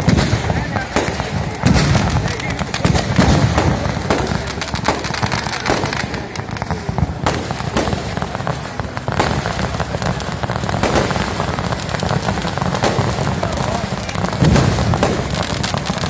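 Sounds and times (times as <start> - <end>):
firecrackers crackling: 0.0 - 16.0
firework shells bursting: 0.0 - 16.0
loud bangs: 0.0 - 16.0.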